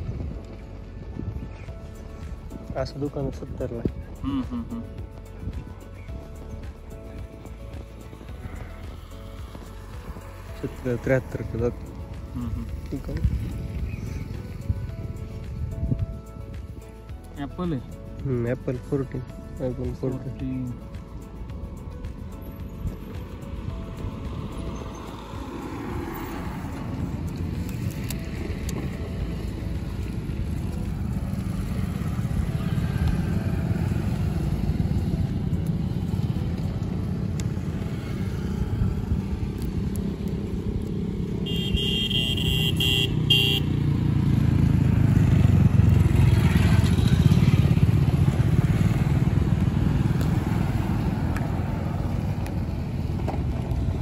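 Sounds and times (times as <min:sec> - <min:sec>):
road traffic rumble: 0:00.0 - 0:54.0
vehicle passing: 0:04.7 - 0:16.5, 0:21.1 - 0:54.0.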